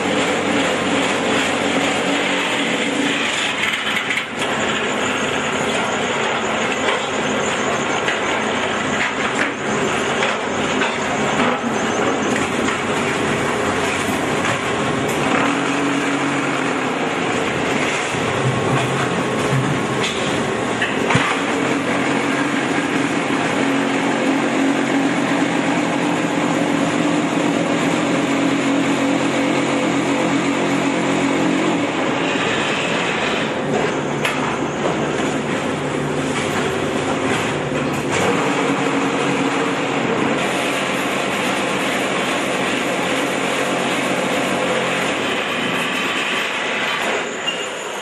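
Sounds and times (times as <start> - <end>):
block making machine rattling: 0.0 - 48.0.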